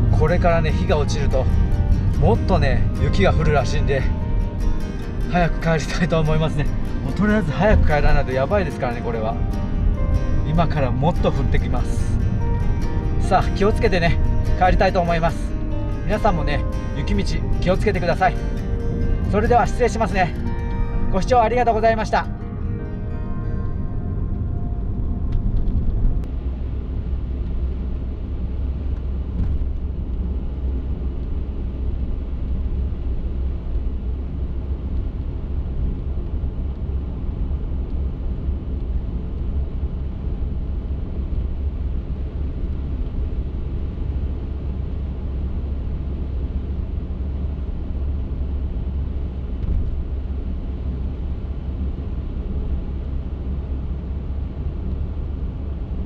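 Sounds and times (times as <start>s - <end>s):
car driving on snowy road: 0.0s - 56.0s.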